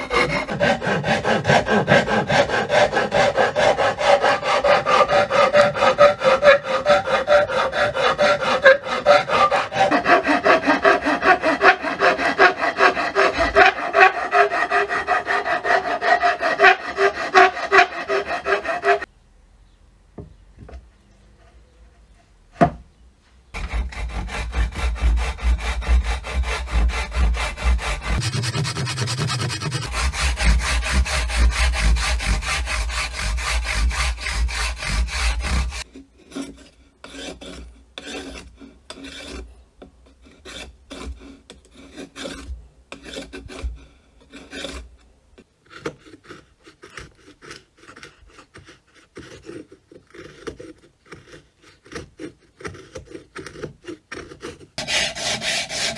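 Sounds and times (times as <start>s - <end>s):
blade scraping wooden handle: 0.0s - 19.1s, 23.6s - 55.9s
wood rasping: 0.0s - 19.1s, 23.6s - 44.9s, 45.7s - 55.9s.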